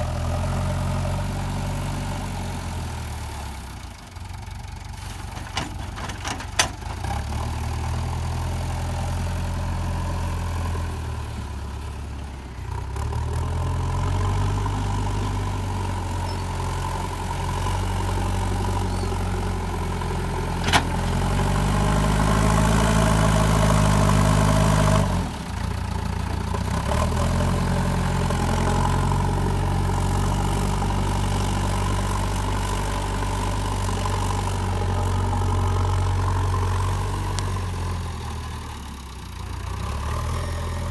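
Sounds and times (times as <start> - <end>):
diesel engine revving: 0.0 - 3.9, 6.5 - 40.9.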